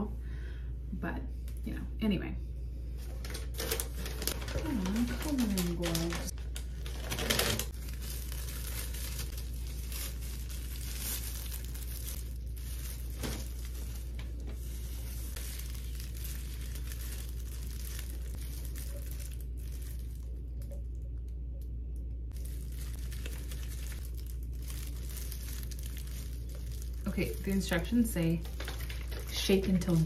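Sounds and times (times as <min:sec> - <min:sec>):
steady low hum: 0:00.0 - 0:30.0
paper rustling and crinkling: 0:03.0 - 0:20.4, 0:22.3 - 0:30.0.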